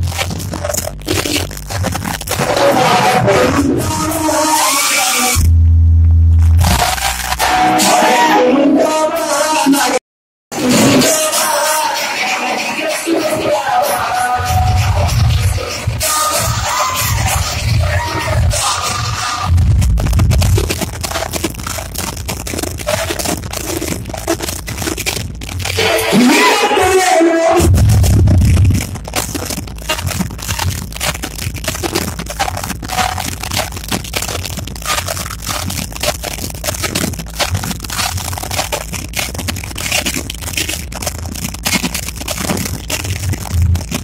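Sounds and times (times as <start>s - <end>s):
distorted loud dance music: 0.0s - 44.0s.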